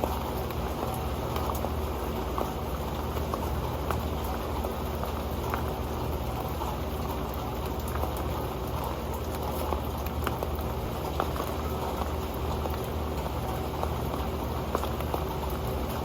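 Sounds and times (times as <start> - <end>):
rain on metal pan: 0.0 - 16.0.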